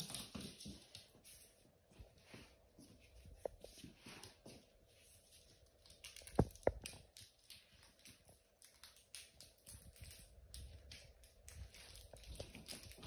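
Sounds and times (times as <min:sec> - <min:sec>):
paws scrabbling and toys rustling: 0:00.0 - 0:13.0.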